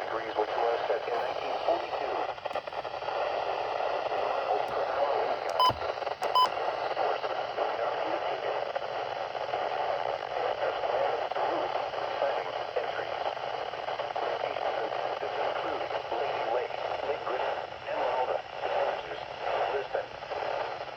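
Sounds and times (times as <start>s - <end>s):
radio static hiss: 0.0s - 20.8s.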